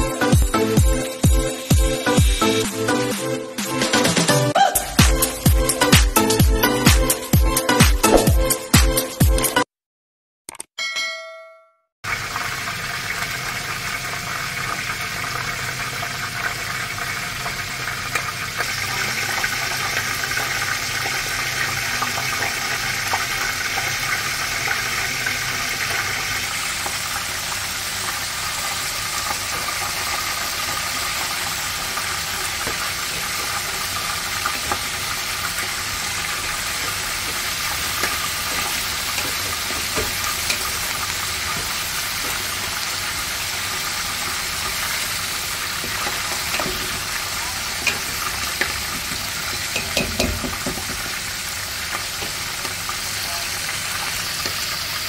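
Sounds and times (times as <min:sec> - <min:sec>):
food sizzling in a pot: 0:00.0 - 0:03.2, 0:12.0 - 0:55.0.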